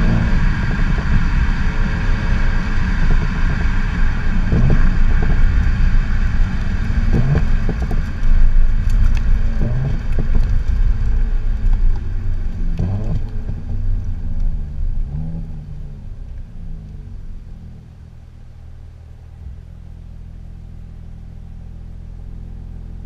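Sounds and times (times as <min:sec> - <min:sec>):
deep exhaust drone: 0:00.0 - 0:23.0
exhaust crackles: 0:00.0 - 0:23.0.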